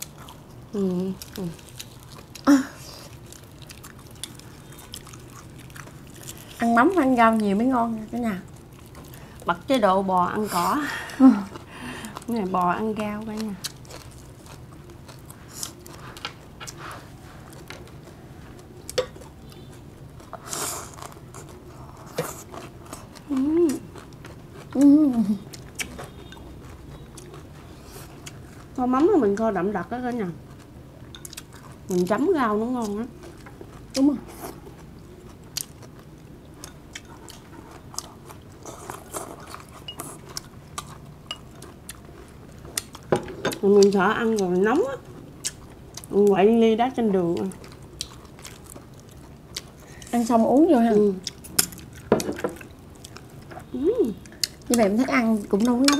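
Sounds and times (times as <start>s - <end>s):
chewing leafy greens: 0.0s - 55.9s.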